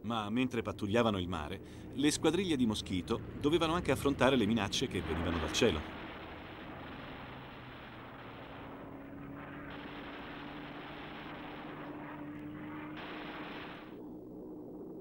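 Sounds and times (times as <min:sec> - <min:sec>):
aircraft engines droning: 0:00.0 - 0:15.0
rushing noise: 0:01.7 - 0:14.1.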